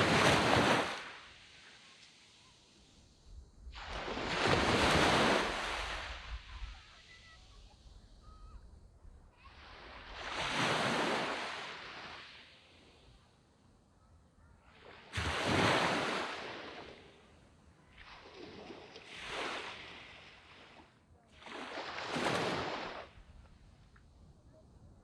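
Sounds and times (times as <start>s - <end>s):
small waves washing up beach: 0.0s - 8.4s, 9.3s - 13.5s, 14.6s - 23.8s.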